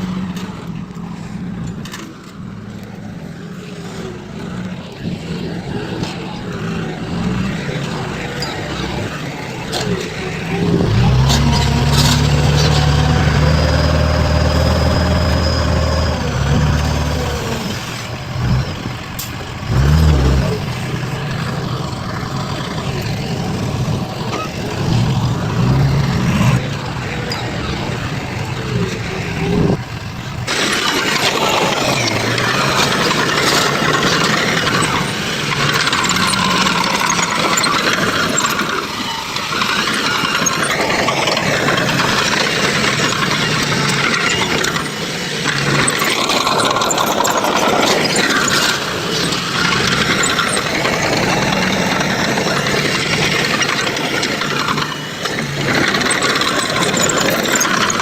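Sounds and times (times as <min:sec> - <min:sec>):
heavy diesel machinery revving: 0:00.0 - 0:58.0.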